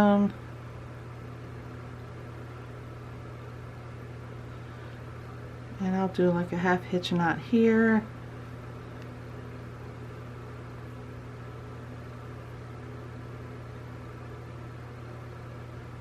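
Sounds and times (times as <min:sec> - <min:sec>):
low hum with faint hiss: 0:00.0 - 0:16.0.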